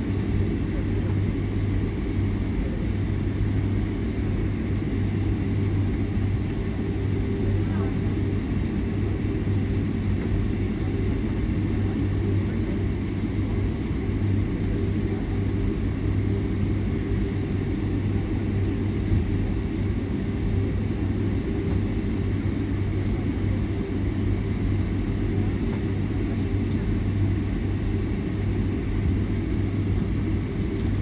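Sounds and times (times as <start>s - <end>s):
jet engine hum in cabin: 0.0s - 31.0s.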